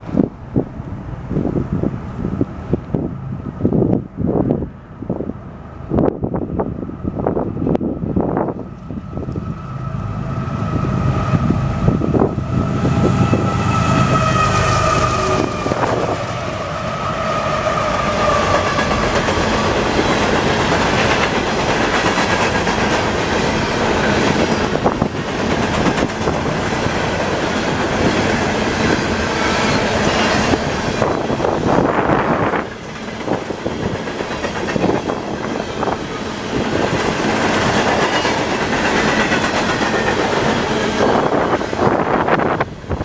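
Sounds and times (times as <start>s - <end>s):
diesel locomotives rumbling: 0.0s - 43.0s.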